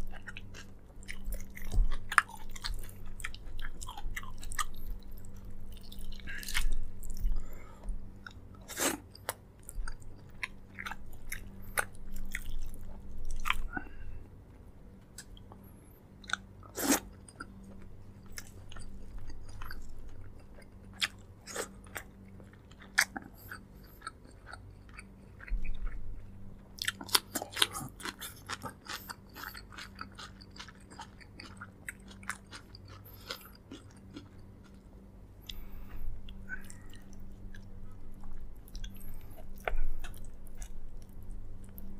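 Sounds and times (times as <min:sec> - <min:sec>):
close-up chewing: 0:00.0 - 0:14.0, 0:15.2 - 0:41.9.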